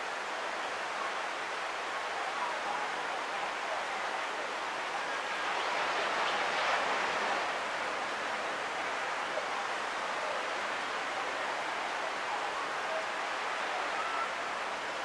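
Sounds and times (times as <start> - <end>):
ocean surf on sandy beach: 0.0 - 15.0.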